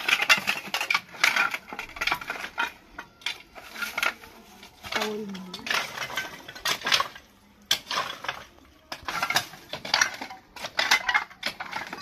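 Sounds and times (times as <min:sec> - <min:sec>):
metal rod scraping through rubble: 0:00.0 - 0:12.0.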